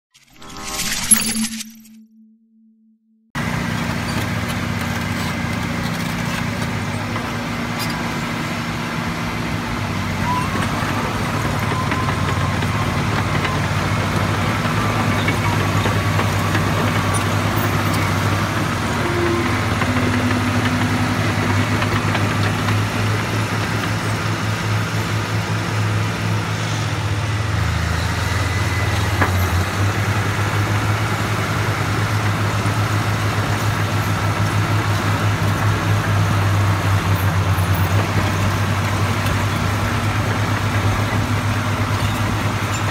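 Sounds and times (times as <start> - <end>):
diesel engine running: 3.4 - 42.9.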